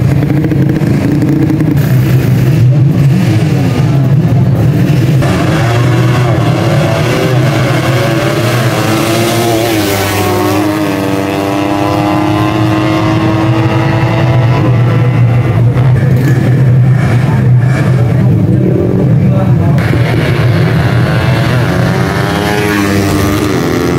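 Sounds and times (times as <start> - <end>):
motorcycle engines revving: 0.0 - 23.9.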